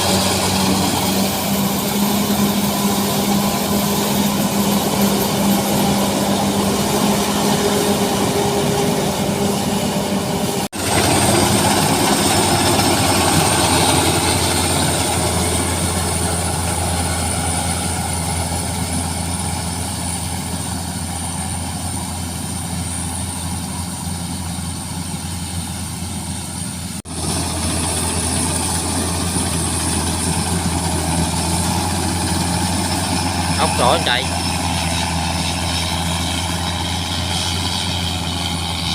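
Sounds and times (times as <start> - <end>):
combine harvester engine and machinery: 0.0 - 38.9.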